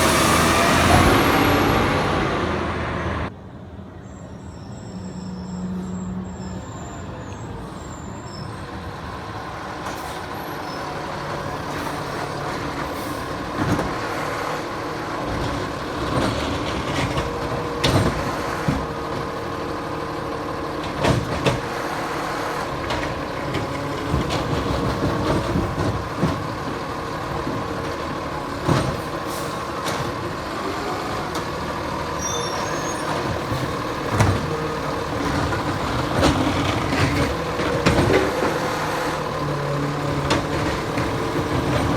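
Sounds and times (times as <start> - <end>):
garbage truck engine running: 0.0 - 3.3, 7.7 - 41.9.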